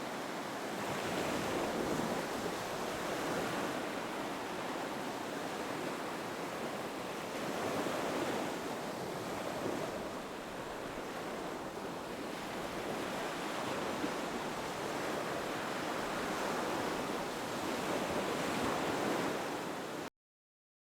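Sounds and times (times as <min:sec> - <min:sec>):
ocean surf washing onto beach: 0:00.0 - 0:20.1.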